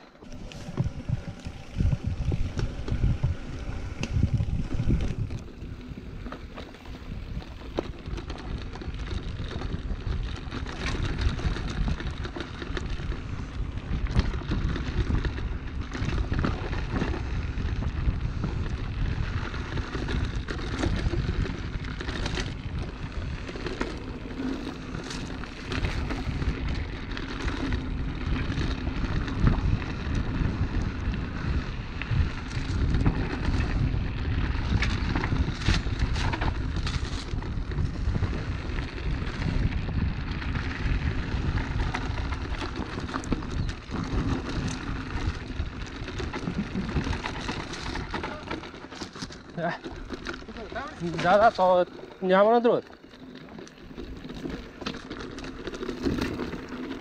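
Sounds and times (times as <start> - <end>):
wind buffeting microphone: 0.0 - 52.8.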